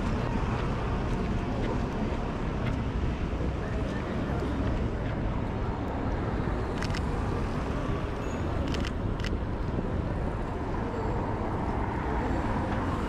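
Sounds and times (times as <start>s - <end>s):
traffic: 0.0s - 13.0s.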